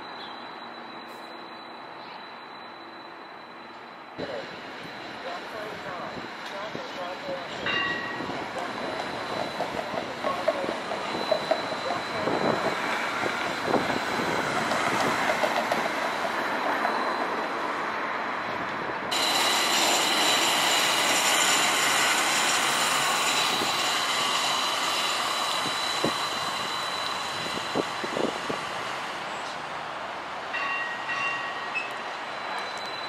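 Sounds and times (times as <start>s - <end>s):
streetcar high-pitched whine: 0.0s - 33.0s
traffic: 0.0s - 33.0s
wheel and rail noise: 0.0s - 33.0s.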